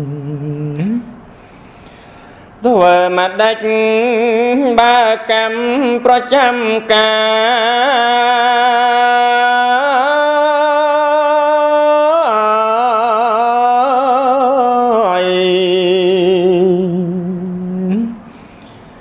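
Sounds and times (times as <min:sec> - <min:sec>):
man chanting: 0:00.0 - 0:01.2, 0:02.6 - 0:18.3.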